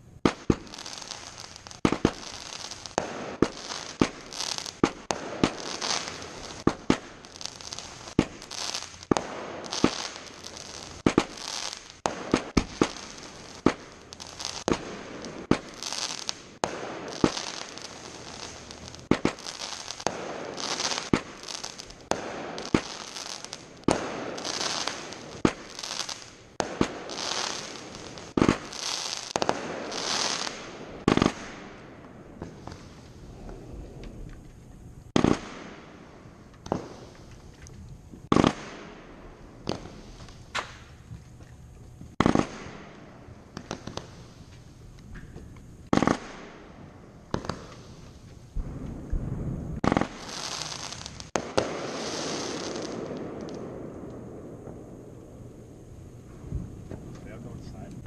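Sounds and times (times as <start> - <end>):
crackling hissing fireworks bursts: 0.0 - 58.0
fireworks bangs: 0.0 - 58.0.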